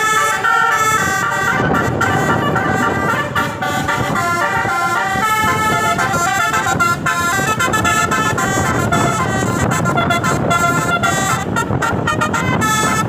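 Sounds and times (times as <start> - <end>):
bus horn playing a quick melody: 0.0 - 13.0
low rumble of vehicle: 0.0 - 13.0.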